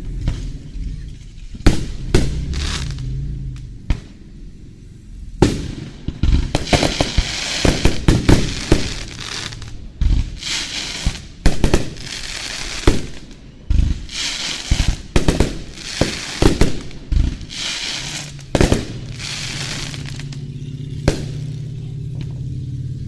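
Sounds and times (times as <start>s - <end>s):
fireworks booming: 0.0s - 23.0s
fireworks crackling: 0.0s - 23.0s.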